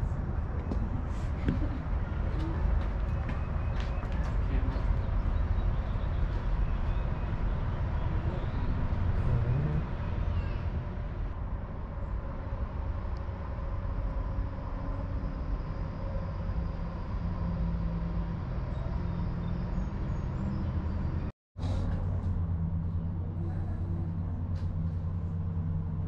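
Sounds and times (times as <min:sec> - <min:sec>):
low outdoor rumbling: 0:00.0 - 0:26.0.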